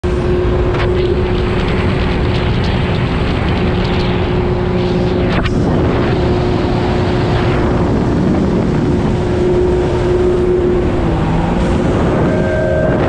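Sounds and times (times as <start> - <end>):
jet ski engines droning: 0.0 - 13.0
wind on microphone: 0.0 - 13.0.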